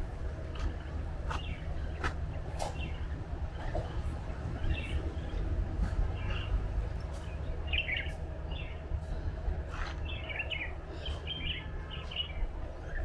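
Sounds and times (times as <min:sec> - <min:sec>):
steady low rumble: 0:00.0 - 0:13.0
small birds chirping: 0:00.5 - 0:13.0.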